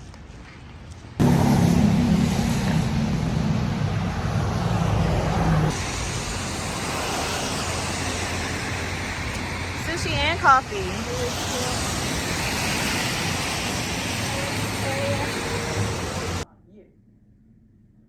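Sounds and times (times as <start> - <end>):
rushing road noise: 0.8 - 16.4
low engine hum: 1.2 - 16.4.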